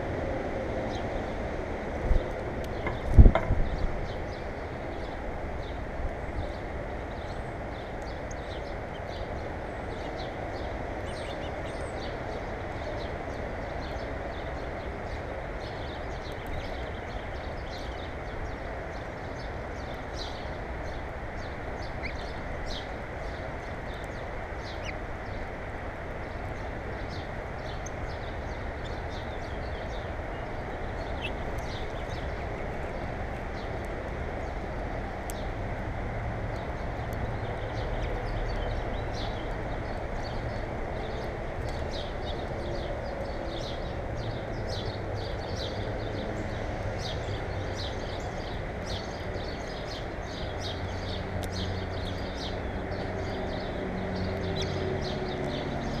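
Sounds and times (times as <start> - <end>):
low rushing background noise: 0.0 - 56.0
small birds chirping: 2.1 - 35.8, 36.5 - 56.0.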